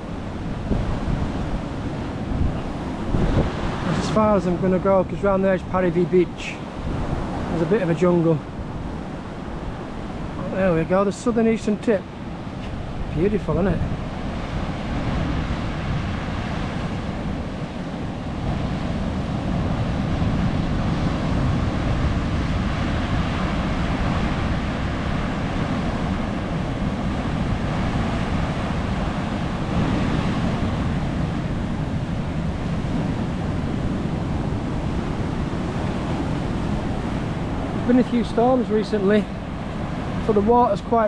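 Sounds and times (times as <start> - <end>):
surf breaking on rocks: 0.0 - 11.7, 12.5 - 41.0
wind on microphone: 0.0 - 41.0.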